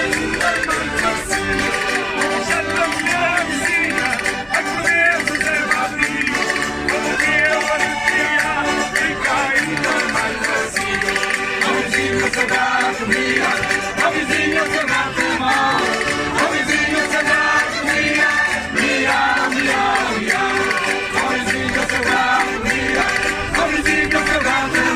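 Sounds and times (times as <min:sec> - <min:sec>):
concertinas playing folk music: 0:00.0 - 0:24.9
voices singing along: 0:00.0 - 0:24.9.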